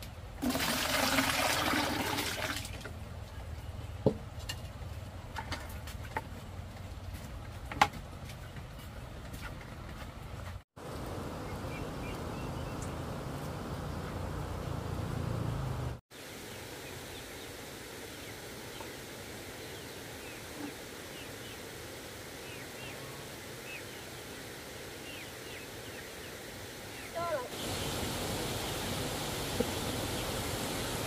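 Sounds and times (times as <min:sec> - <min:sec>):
steady outdoor hiss: 0:00.0 - 0:31.0.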